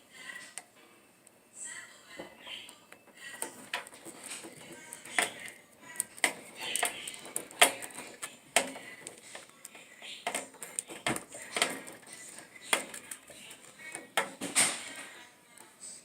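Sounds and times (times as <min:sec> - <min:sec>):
plastic and metal parts clicking: 0:02.2 - 0:15.7.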